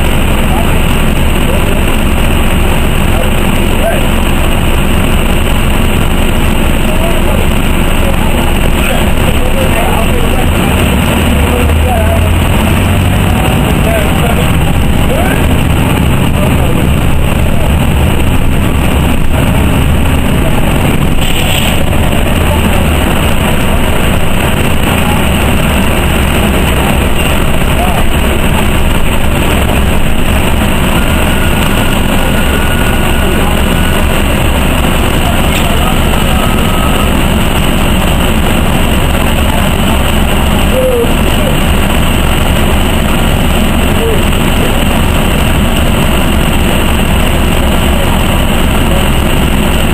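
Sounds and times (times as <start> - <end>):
bus engine and road noise: 0.0 - 49.9.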